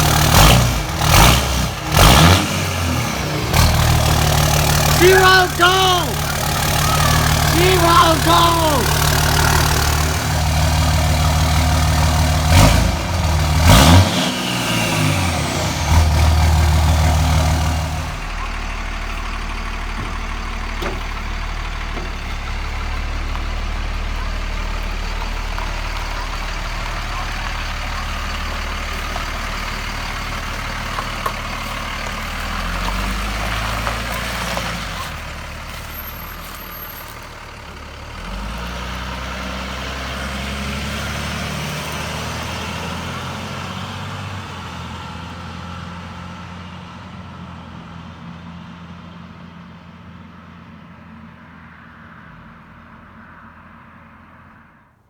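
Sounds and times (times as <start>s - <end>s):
diesel truck engine revving and idling: 0.0s - 54.8s.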